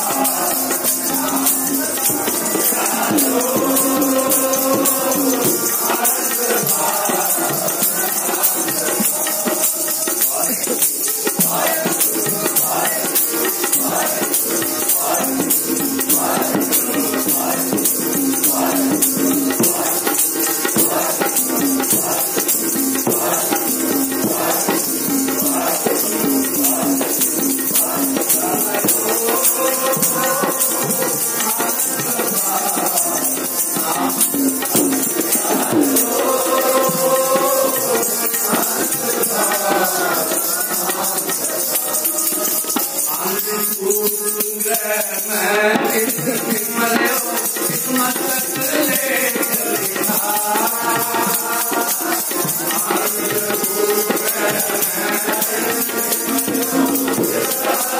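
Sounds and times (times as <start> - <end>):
jingling percussion: 0.0 - 57.9
voices singing: 0.0 - 57.9.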